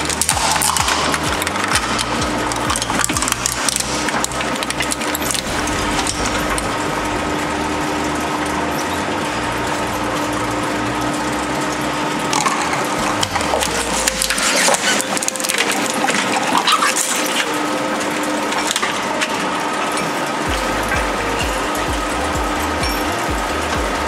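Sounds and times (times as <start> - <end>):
plastic cracking in shredder: 0.0 - 24.0
shredder humming and rumbling: 0.0 - 24.0.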